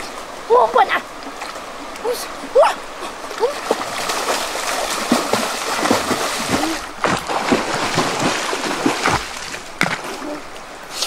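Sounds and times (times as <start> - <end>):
river water rushing: 0.0 - 11.0
water splashing and sloshing: 0.0 - 11.0.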